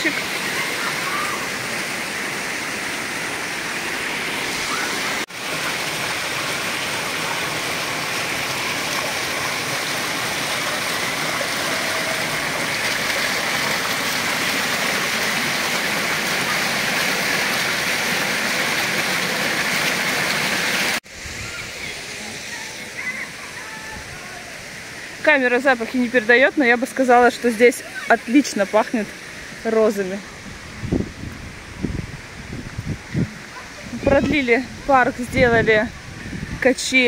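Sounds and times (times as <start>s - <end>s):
fountain water splashing into basin: 0.0s - 30.0s.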